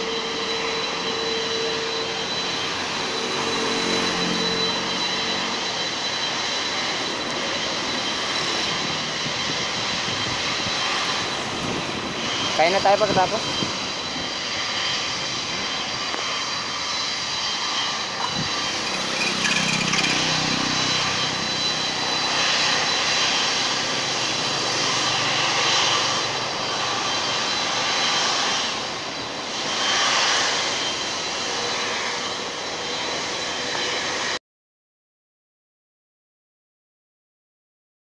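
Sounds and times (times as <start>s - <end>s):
jet engine rushing noise: 0.0s - 34.4s.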